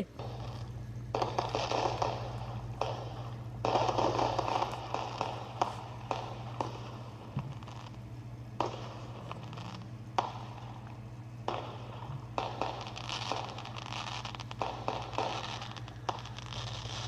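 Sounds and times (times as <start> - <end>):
crackling hiss of fireworks: 0.0 - 17.0
faint steady hum: 0.0 - 17.0
fireworks popping: 0.0 - 17.0.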